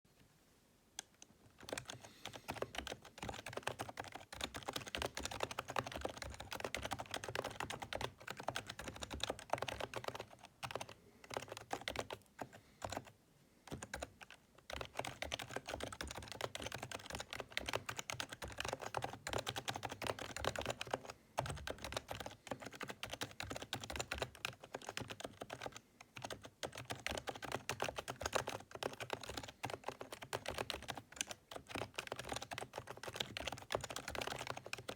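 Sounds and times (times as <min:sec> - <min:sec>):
soft keyboard typing: 0:01.0 - 0:34.9.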